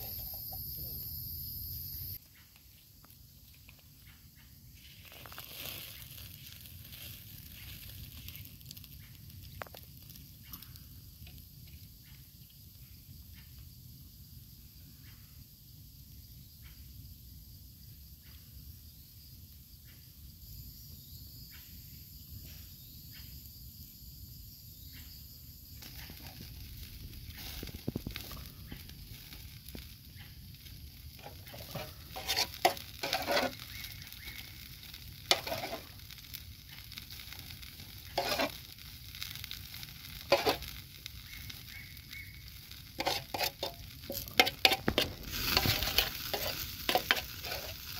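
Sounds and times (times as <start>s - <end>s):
food sizzling on hot stone: 0.0s - 47.9s.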